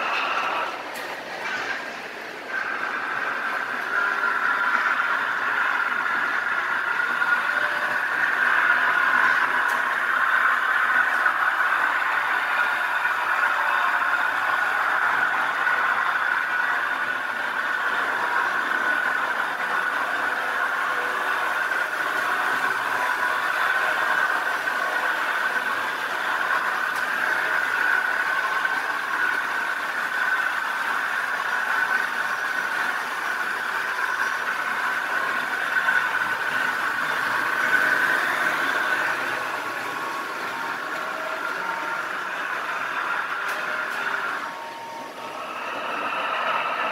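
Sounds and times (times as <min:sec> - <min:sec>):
model train motors whirring: 0:00.0 - 0:46.9.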